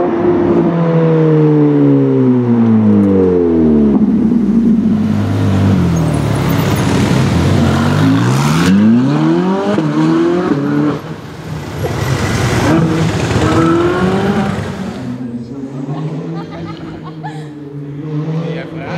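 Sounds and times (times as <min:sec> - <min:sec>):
sports car engine revving: 0:00.0 - 0:11.2, 0:12.2 - 0:16.8.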